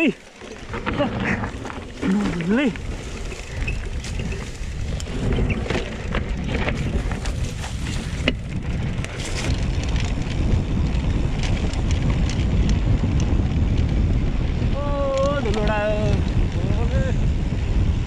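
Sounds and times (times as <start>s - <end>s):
bike clicks and rattles: 0.0s - 18.0s
wind buffeting microphone: 0.0s - 18.0s.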